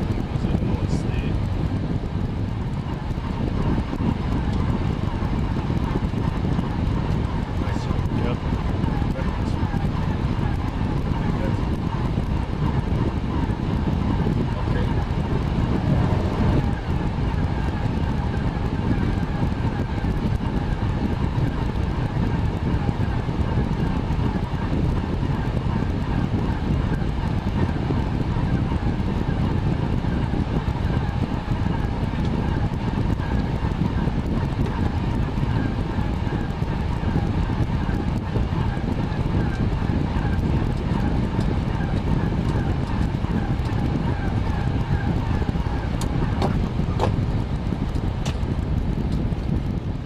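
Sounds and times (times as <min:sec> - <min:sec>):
airplane cockpit engine noise: 0:00.0 - 0:50.0.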